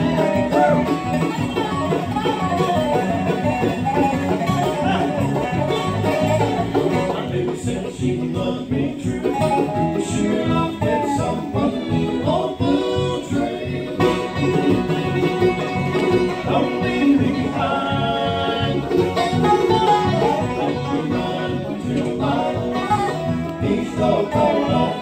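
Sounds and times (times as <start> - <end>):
acoustic guitar: 0.0 - 25.0
banjo picking: 0.0 - 25.0
mandolin: 0.0 - 25.0
resonator guitar: 0.0 - 25.0.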